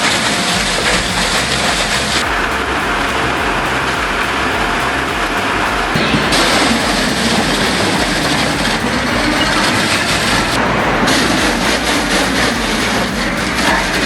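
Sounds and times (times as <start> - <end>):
machinery grinding scrap metal: 0.0 - 14.0.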